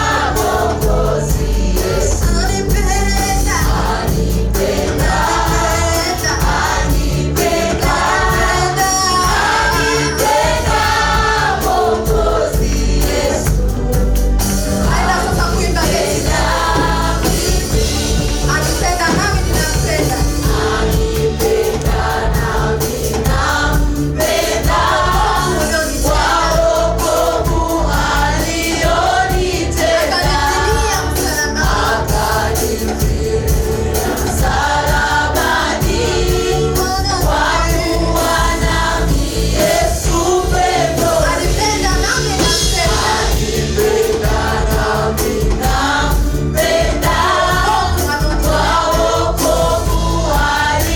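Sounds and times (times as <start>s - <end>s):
choir singing gospel music: 0.0s - 50.9s
instrumental backing with bass: 0.0s - 50.9s.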